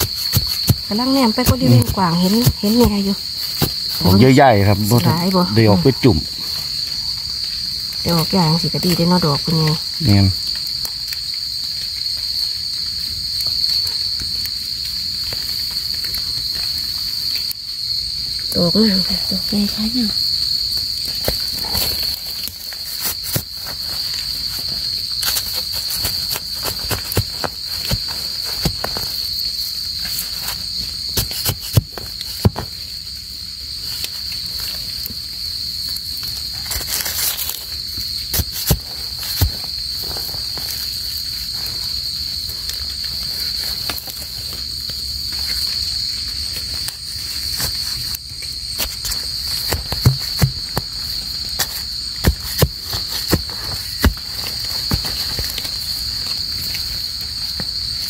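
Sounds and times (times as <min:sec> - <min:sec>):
crickets and night insects: 0:00.0 - 0:58.0.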